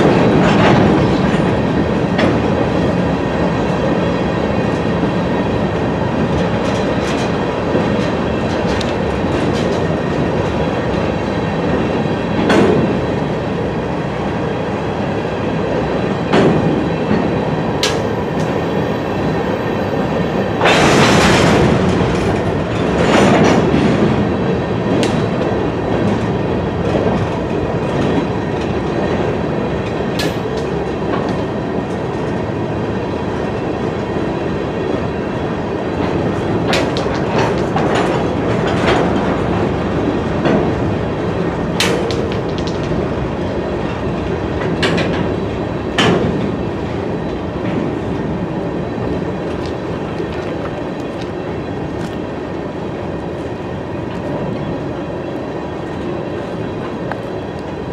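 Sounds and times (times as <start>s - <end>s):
clickety-clack over rail joints: 0.0s - 57.9s
freight train wheels rumbling: 0.0s - 57.9s.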